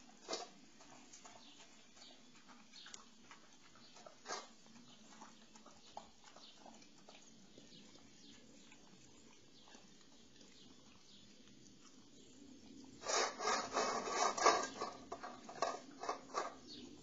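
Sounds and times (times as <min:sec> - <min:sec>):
dog eating from metal bowl: 0:00.0 - 0:17.0.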